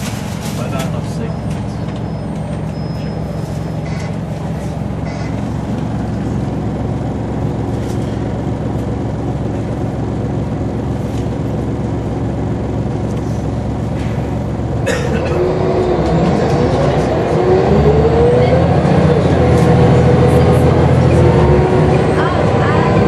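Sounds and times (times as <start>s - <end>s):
bus diesel engine droning: 0.0s - 23.0s.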